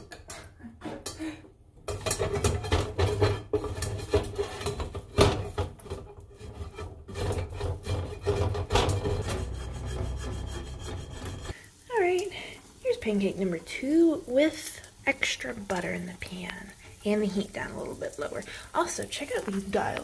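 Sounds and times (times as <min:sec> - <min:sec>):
spatula scraping frying pan: 0:00.0 - 0:20.0.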